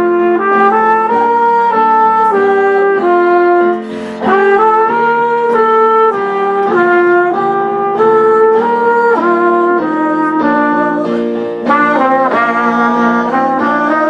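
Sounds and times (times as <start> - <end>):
instrumental melody over chords: 0.0 - 14.0.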